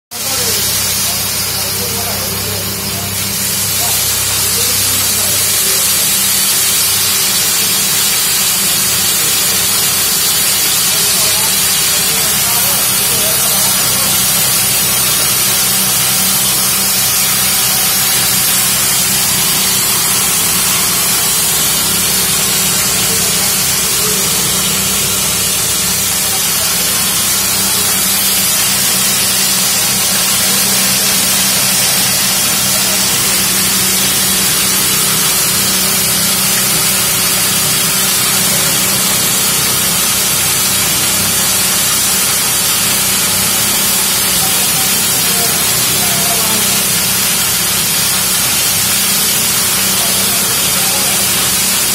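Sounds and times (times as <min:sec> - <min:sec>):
hammer mill grinding grain: 0:00.1 - 0:51.9.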